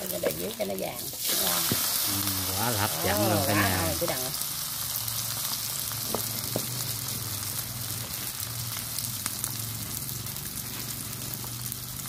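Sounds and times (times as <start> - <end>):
fritter frying in hot oil: 0.0 - 12.0.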